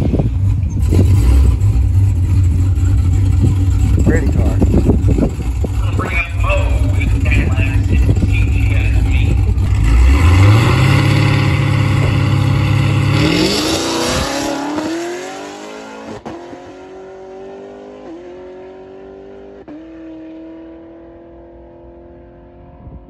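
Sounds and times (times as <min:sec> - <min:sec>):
car engine revving and accelerating: 0:00.0 - 0:23.0.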